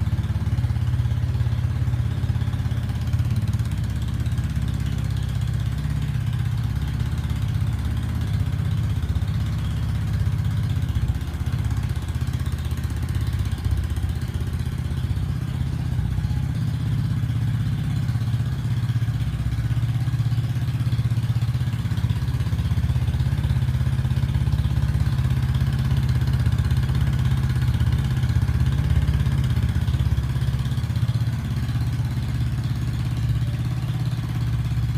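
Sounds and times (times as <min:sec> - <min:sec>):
scooter engine idling: 0:00.0 - 0:34.9.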